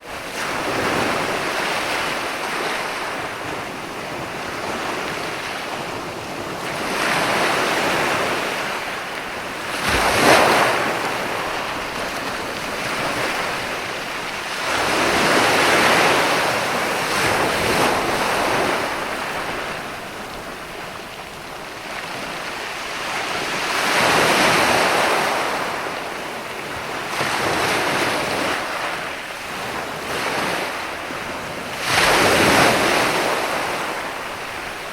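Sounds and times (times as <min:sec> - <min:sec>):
ocean waves breaking: 0:00.0 - 0:34.9.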